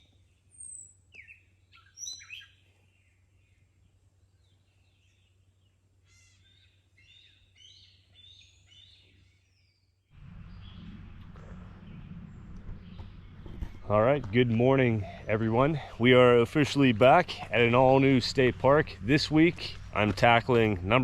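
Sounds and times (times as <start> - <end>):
faint songbirds chirping: 0.0 - 21.0.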